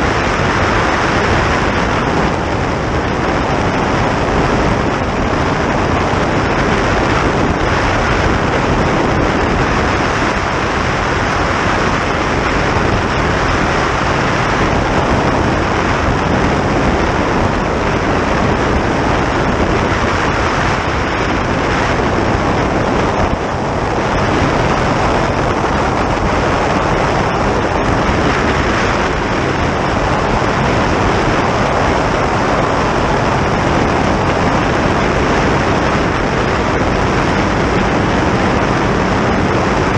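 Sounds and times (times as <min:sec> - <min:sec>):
rushing water under speeding boat: 0:00.0 - 0:39.9
wind buffeting microphone: 0:00.0 - 0:39.9.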